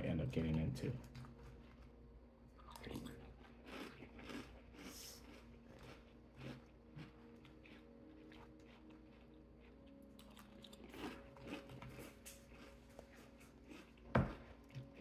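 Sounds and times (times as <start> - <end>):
crunchy cereal chewing: 2.6 - 15.0.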